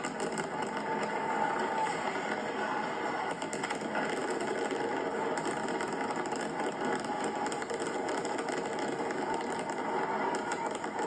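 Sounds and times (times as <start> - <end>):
fireworks crackling and rumbling: 0.0 - 11.0.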